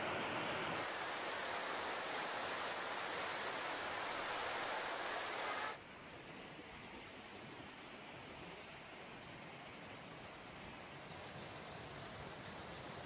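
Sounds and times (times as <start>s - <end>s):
steady hiss of water: 0.0s - 13.0s.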